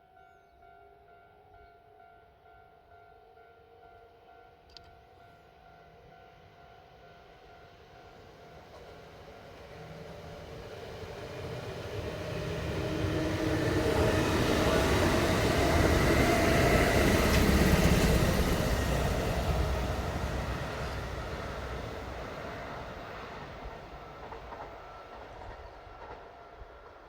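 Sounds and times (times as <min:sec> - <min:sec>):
electric train passing: 0:04.8 - 0:27.0.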